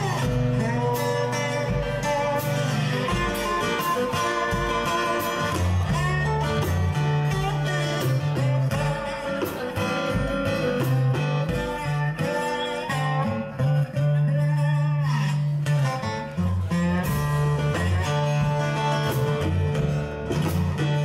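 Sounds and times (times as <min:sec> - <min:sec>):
light drum beat: 0:00.0 - 0:13.7, 0:16.7 - 0:21.0
acoustic guitar rhythm: 0:00.0 - 0:21.0
resonator guitar slide lead: 0:00.0 - 0:21.0.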